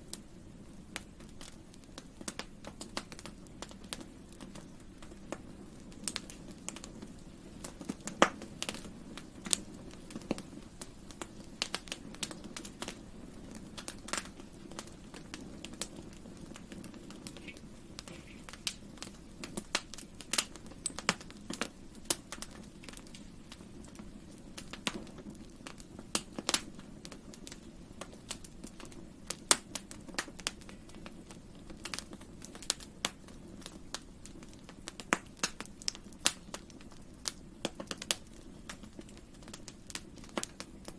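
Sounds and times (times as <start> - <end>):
burning wood crackling: 0.0 - 40.9
flames rushing: 0.1 - 40.9.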